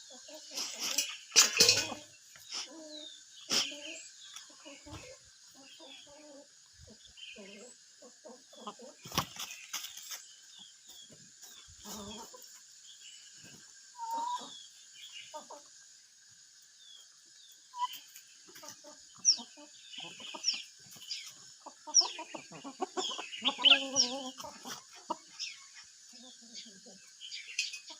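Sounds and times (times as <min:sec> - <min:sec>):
chickens clucking: 0:00.0 - 0:27.9.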